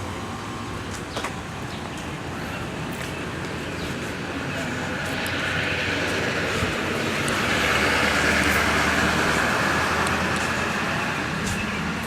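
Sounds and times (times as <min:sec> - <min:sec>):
vehicle passing: 0:02.2 - 0:12.0.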